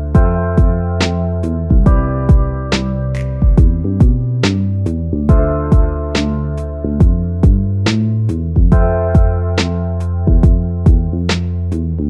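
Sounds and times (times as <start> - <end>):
drum pattern: 0.0 - 11.7.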